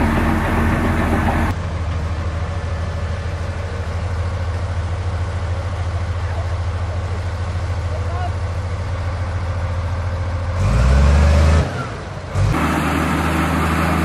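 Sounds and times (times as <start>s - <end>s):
diesel engine throbbing: 0.0s - 14.0s.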